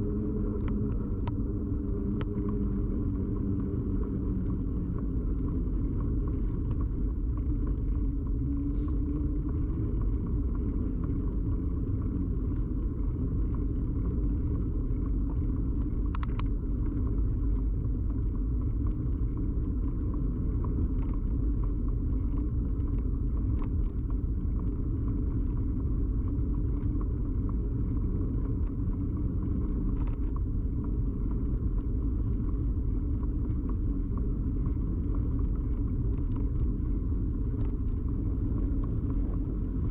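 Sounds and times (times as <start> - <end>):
bicycle road rumble: 0.0 - 39.9
faint clicks: 0.5 - 39.9.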